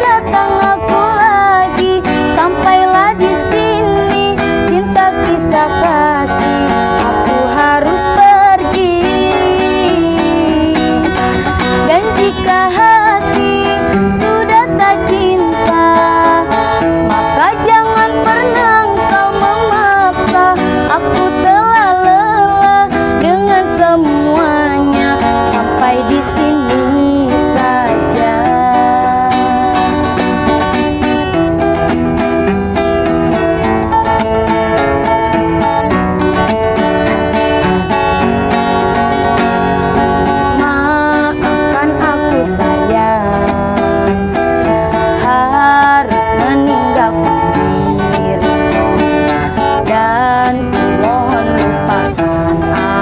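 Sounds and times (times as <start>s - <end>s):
person singing: 0.0s - 31.0s, 38.5s - 53.0s
guitar chords: 0.0s - 53.0s.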